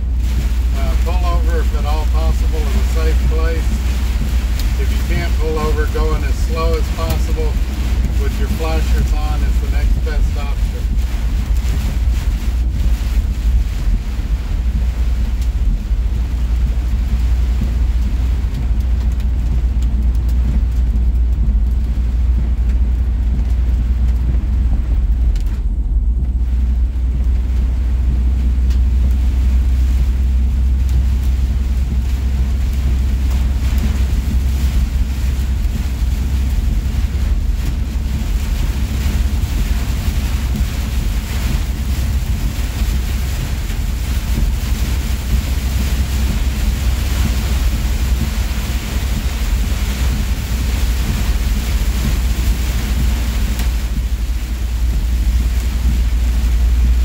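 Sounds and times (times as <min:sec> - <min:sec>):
diesel truck engine drone: 0:00.0 - 0:57.0
heavy rain hissing: 0:00.0 - 0:57.0
wind on truck: 0:00.0 - 0:57.0.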